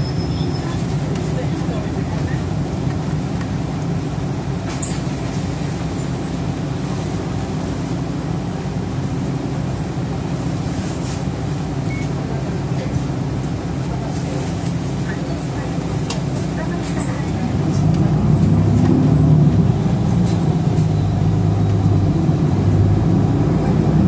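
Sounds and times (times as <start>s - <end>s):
bus engine hum: 0.0s - 24.0s
bus engine idling: 0.0s - 24.0s
road noise: 0.0s - 24.0s.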